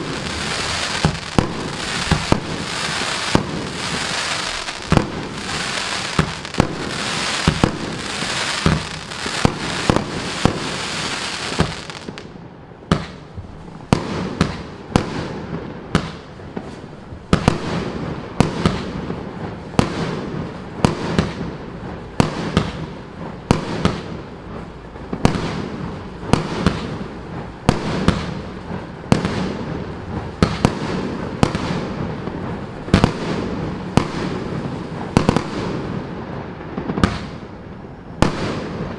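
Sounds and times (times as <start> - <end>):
firework bangs: 0.0 - 38.9
fireworks crackling hiss: 0.0 - 38.9.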